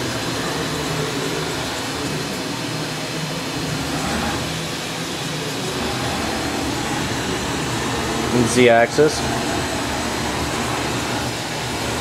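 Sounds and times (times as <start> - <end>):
machine hum and axis drive whir: 0.0 - 12.0.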